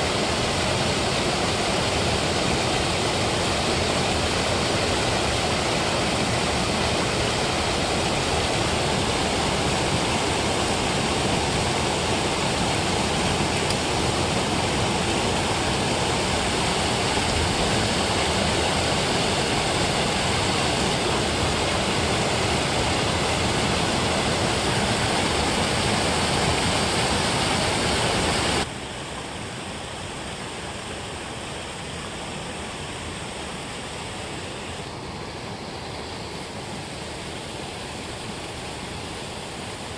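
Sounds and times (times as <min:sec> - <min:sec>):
water rushing over a weir: 0:00.0 - 0:39.9.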